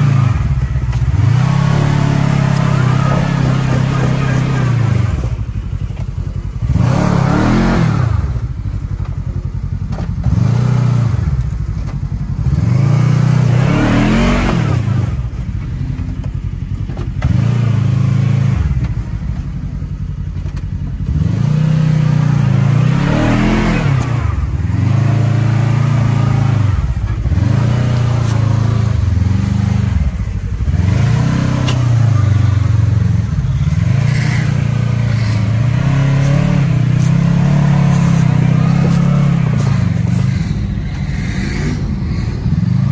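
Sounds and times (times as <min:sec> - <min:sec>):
engine revving: 0:00.0 - 0:42.9.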